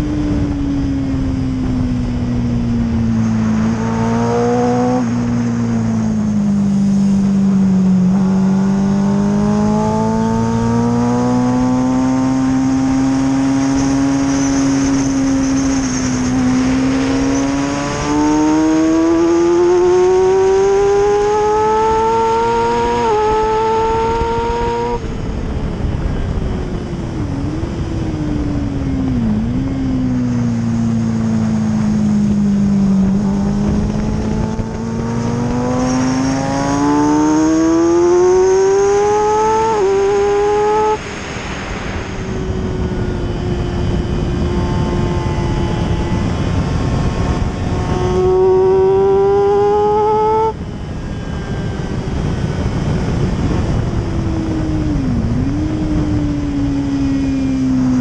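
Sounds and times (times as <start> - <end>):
racing motorcycle engine: 0.0 - 58.0
wind rushing over microphone: 0.0 - 58.0.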